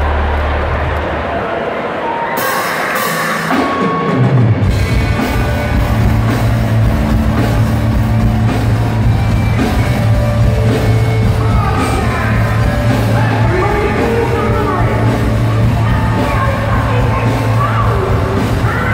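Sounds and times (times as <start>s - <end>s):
bass line: 0.0s - 1.2s, 4.3s - 18.9s
rock band playing live: 2.2s - 18.9s
drum kit: 2.4s - 18.9s.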